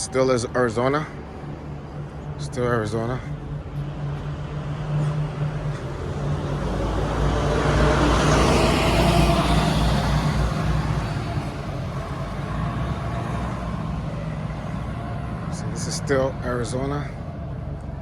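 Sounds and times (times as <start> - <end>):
low engine hum: 0.0 - 18.0
vehicle driving past: 0.0 - 18.0.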